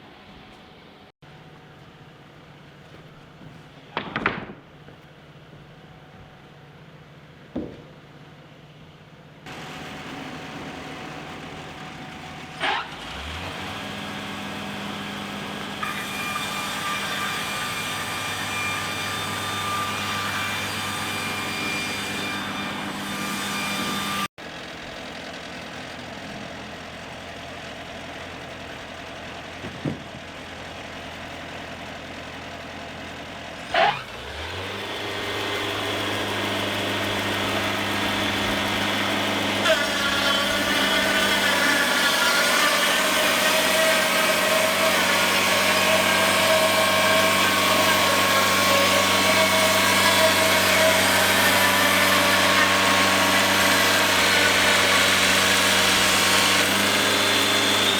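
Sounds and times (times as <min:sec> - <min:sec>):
sawmill engine running and revving: 0:09.4 - 0:57.9.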